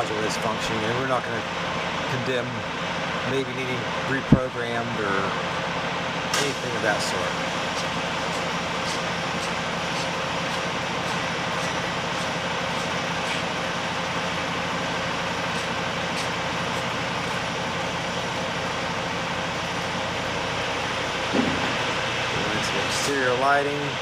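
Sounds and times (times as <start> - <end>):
mechanical drone with low hum: 0.0 - 24.0.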